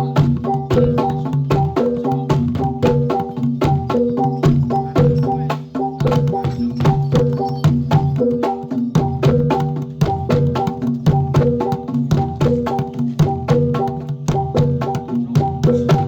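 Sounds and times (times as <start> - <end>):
drum strokes: 0.0 - 16.0
pitched struck notes: 0.0 - 16.0.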